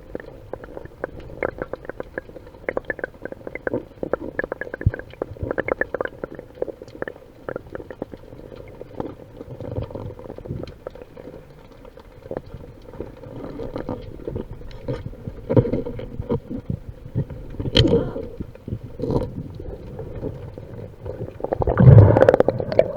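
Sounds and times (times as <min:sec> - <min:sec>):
muffled underwater rumble: 0:00.0 - 0:22.9
scattered clicks and crackles: 0:00.0 - 0:22.9.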